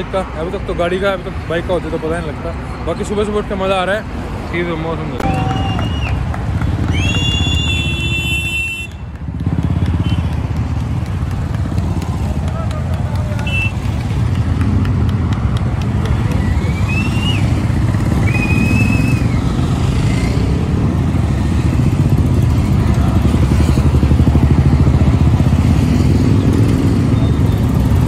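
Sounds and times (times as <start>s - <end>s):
motorcycle engines rumbling: 0.0s - 28.0s.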